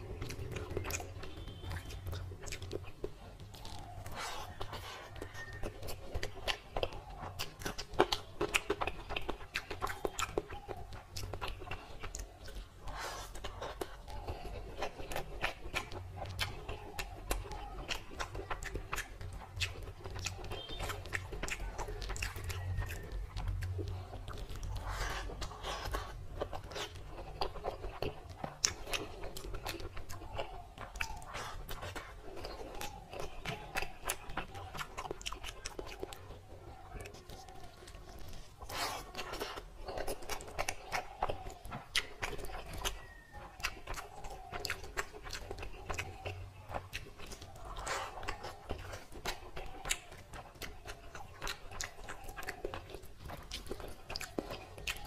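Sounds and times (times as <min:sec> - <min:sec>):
man chewing: 0:00.0 - 0:55.0.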